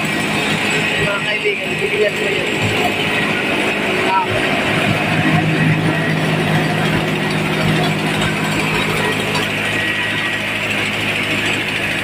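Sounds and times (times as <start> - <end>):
rice mill droning: 0.0 - 12.0.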